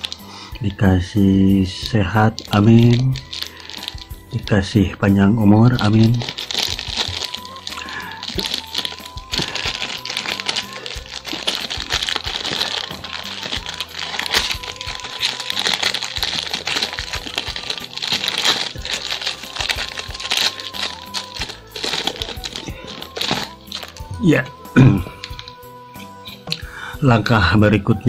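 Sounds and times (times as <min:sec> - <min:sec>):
plastic bag crinkling: 0:00.0 - 0:25.6
background music: 0:00.0 - 0:28.0.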